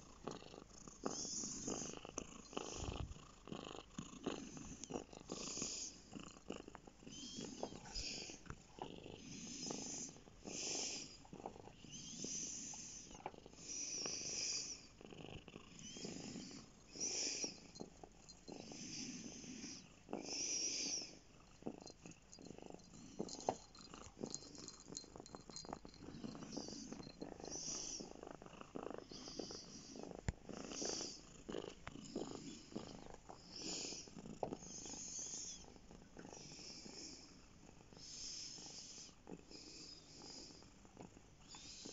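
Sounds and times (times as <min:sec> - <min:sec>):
cat purring: 0:00.0 - 0:41.9.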